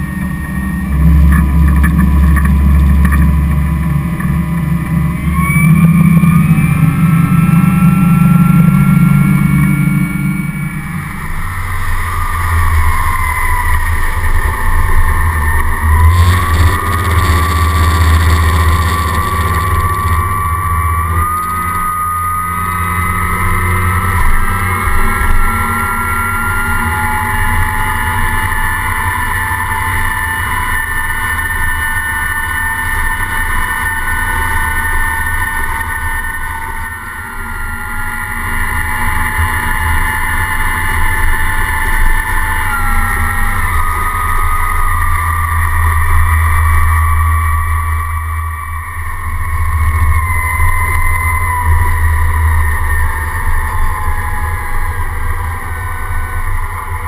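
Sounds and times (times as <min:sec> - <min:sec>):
deep boat engine with whine: 0:00.0 - 0:57.0.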